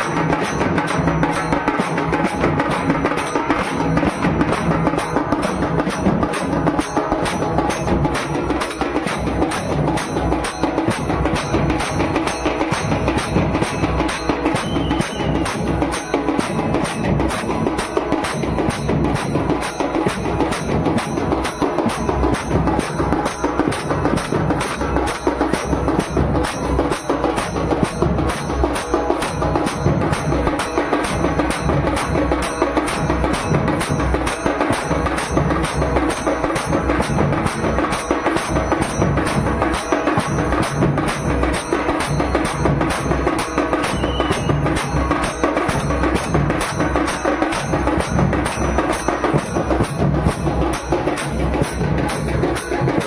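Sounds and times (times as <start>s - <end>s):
drums beating steady rhythm: 0.0s - 53.0s
small cymbals jingling: 0.0s - 53.0s.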